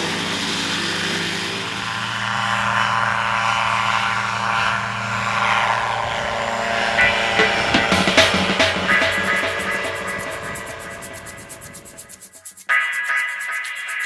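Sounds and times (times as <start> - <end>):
propeller engine running: 0.0 - 14.0.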